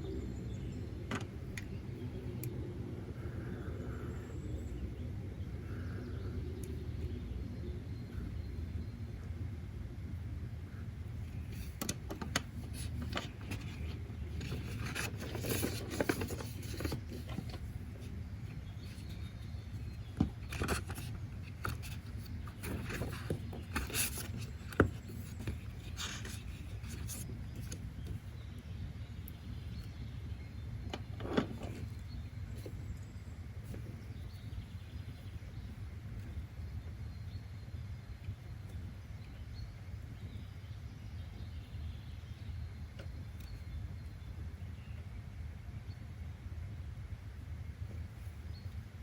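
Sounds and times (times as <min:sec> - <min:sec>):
low background rumble: 0:00.0 - 0:49.0.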